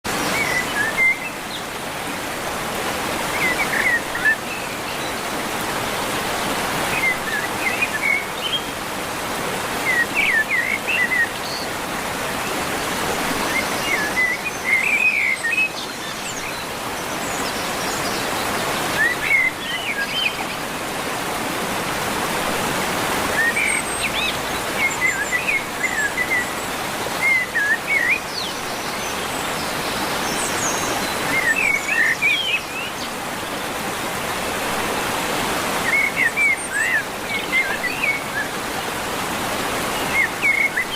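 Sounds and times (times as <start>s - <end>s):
birds chirping and trilling: 0.1s - 40.9s.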